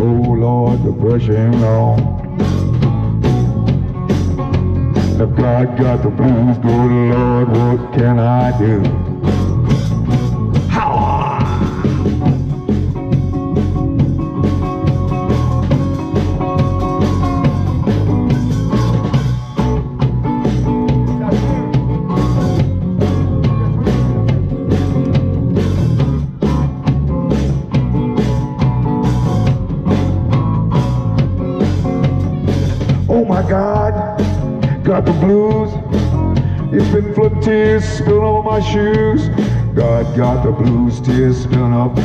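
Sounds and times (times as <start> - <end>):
drum kit beat: 0.0 - 42.0
upright bass: 0.0 - 42.0.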